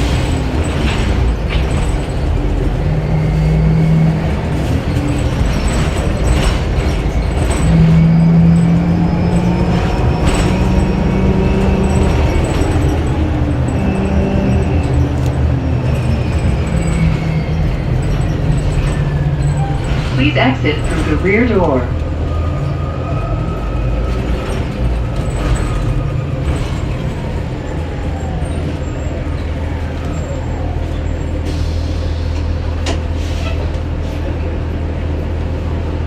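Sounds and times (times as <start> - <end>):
bus engine droning: 0.0 - 36.0.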